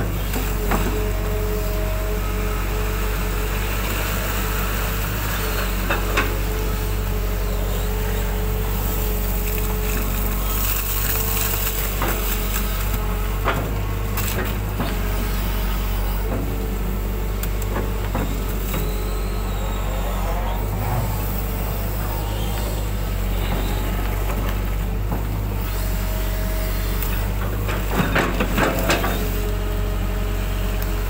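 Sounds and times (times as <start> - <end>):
excavator engine hum: 0.0 - 31.0.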